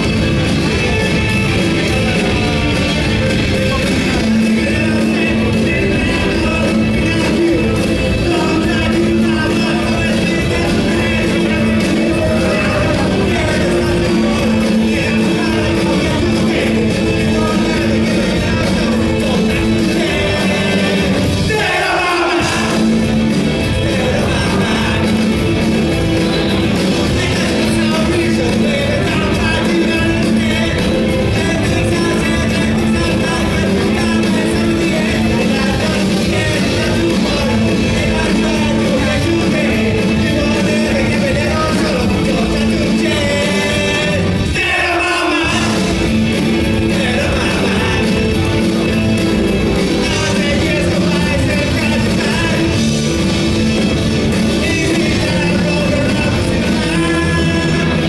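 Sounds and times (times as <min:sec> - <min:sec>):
drums: 0:00.0 - 0:58.0
electric guitar: 0:00.0 - 0:58.0
man singing: 0:00.0 - 0:58.0.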